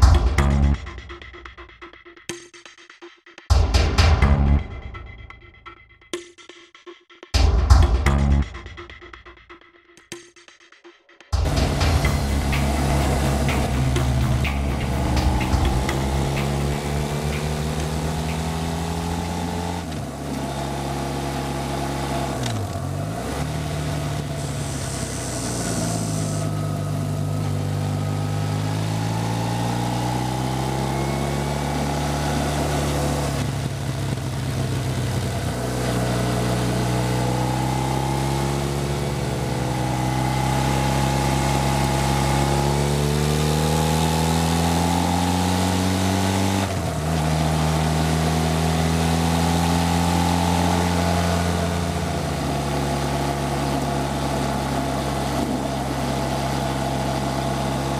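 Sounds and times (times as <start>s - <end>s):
motorcycle engine revving: 11.3s - 57.9s.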